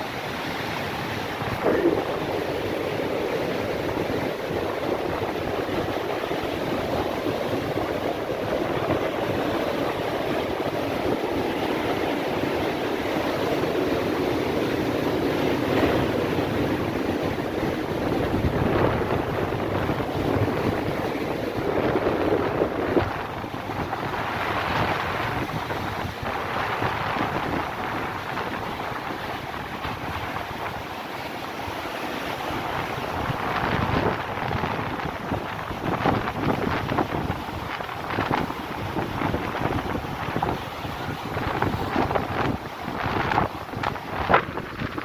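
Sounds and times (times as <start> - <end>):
surf breaking on shore: 0.0 - 45.0
wind buffeting microphone: 0.0 - 45.0.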